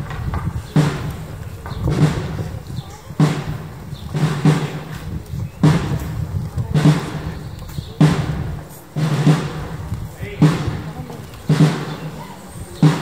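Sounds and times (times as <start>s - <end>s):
drum beating slow march: 0.0s - 13.0s.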